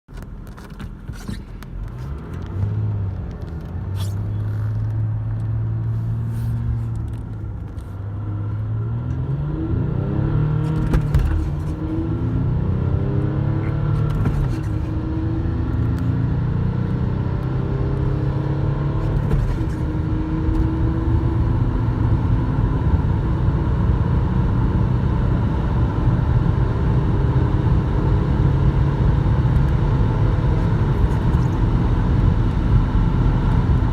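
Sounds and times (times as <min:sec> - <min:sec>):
diesel engine accelerating hard: 0:01.9 - 0:33.9.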